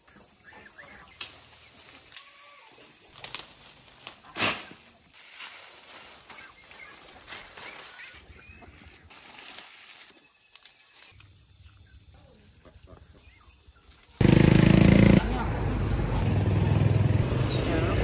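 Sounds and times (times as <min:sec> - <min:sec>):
insects buzzing: 0:00.0 - 0:15.2.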